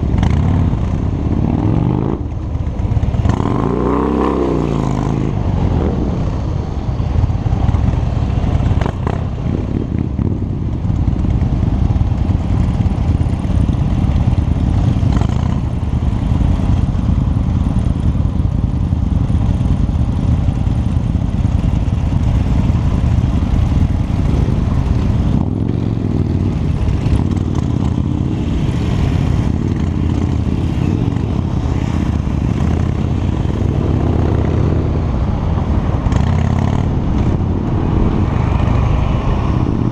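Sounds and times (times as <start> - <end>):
wind noise on microphone: 0.0 - 19.2, 20.9 - 39.9
motorcycle engine running: 0.0 - 39.9.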